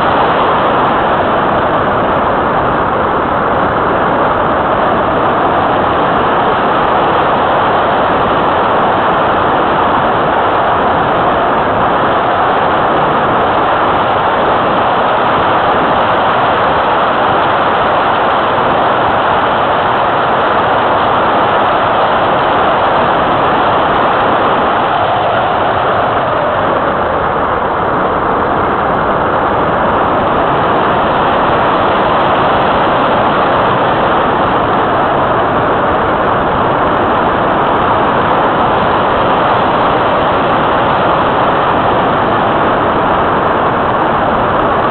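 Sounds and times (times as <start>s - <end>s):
wind hiss on microphone: 0.0s - 44.9s.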